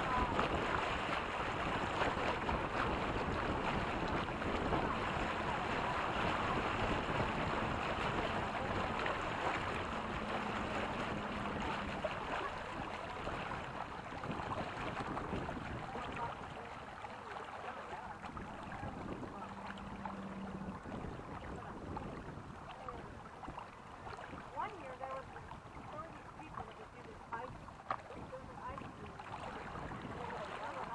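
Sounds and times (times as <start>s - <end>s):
wind noise: 0.0s - 16.5s, 18.2s - 23.1s, 27.4s - 30.9s
water splashing along a hull: 0.0s - 30.9s.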